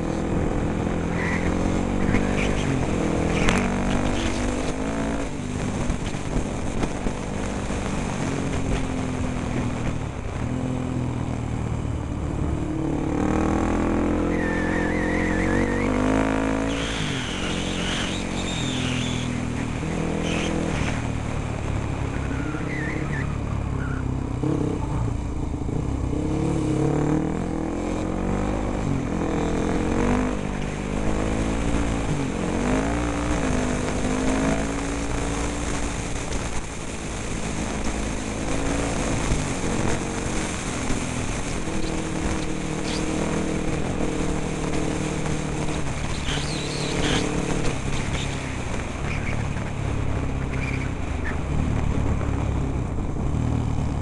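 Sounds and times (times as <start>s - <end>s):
dirt bike engine revving: 0.0s - 10.0s, 12.3s - 24.9s, 26.1s - 35.9s, 36.8s - 52.2s
wind rushing on microphone: 0.0s - 25.9s, 28.3s - 54.0s.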